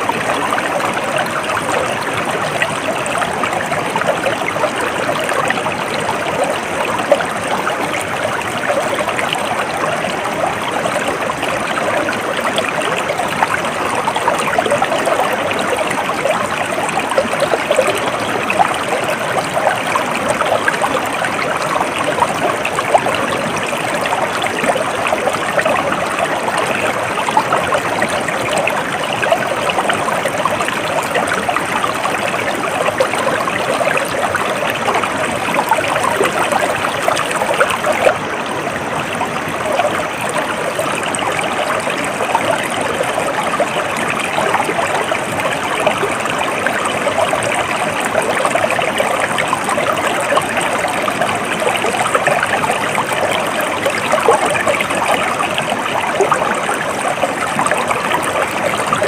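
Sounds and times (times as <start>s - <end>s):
stream trickling and babbling: 0.0s - 59.0s.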